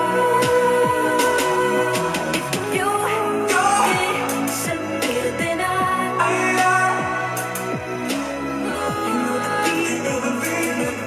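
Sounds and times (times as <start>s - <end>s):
music with held chords: 0.0s - 11.0s.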